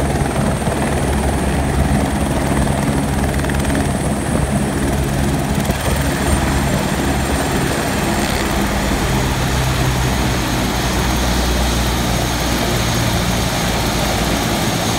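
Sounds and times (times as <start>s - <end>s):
helicopter rotor and engine hum: 0.0s - 14.9s
high turbine whine: 0.0s - 14.9s.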